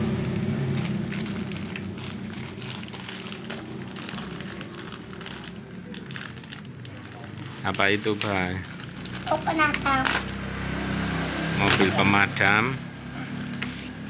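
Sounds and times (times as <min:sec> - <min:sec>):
plastic packaging crinkling: 0:00.2 - 0:12.3.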